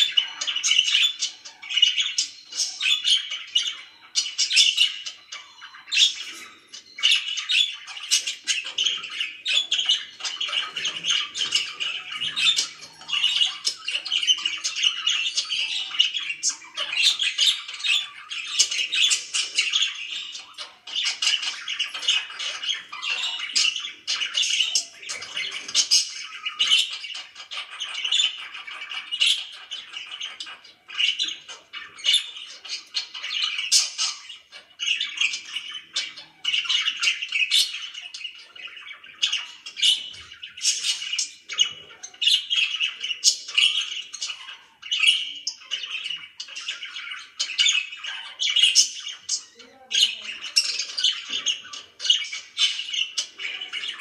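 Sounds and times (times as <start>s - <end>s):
budgerigars warbling and chattering: 0.0s - 54.0s.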